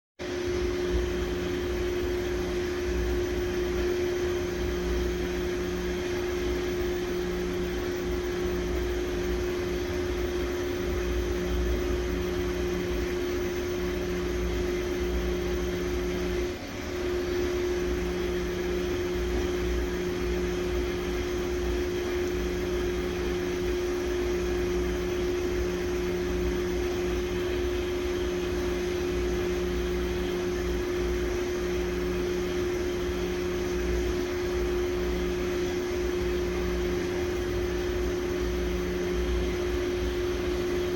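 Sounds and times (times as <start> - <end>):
washing machine spinning: 0.2 - 40.9.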